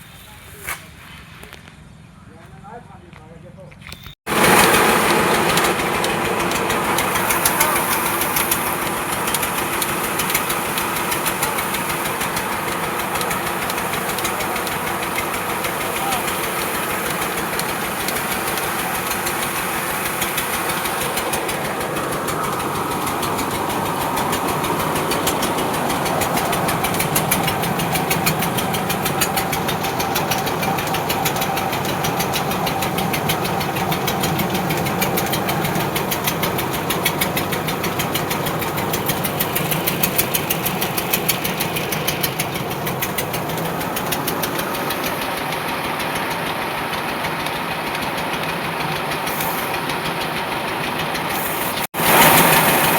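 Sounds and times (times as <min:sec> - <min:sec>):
tractor diesel engine knocking: 0:04.3 - 0:52.9.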